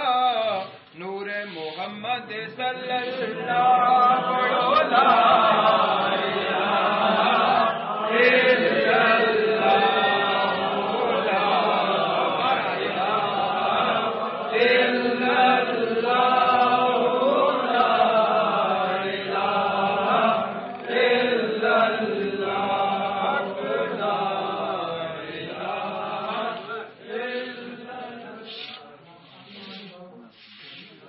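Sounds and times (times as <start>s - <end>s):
men chanting together: 1.5s - 29.9s.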